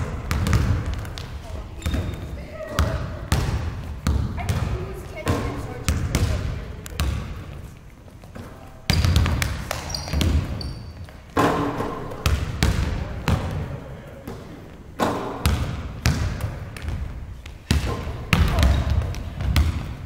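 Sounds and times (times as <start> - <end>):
basketballs bouncing on hardwood floor: 0.0 - 20.0.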